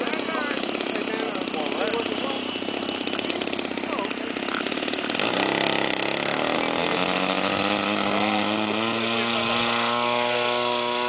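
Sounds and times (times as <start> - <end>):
model plane engine revving: 0.0 - 11.0.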